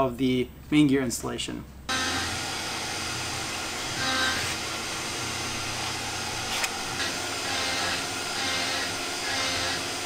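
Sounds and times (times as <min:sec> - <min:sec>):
machine hum: 0:01.8 - 0:10.0.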